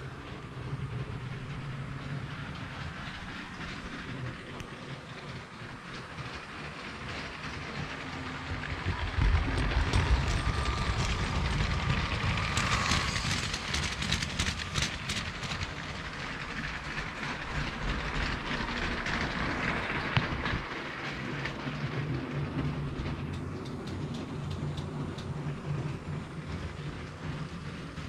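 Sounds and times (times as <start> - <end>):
toy train rumbling on track: 0.0 - 28.0
wheels clicking over track joints: 0.3 - 28.0.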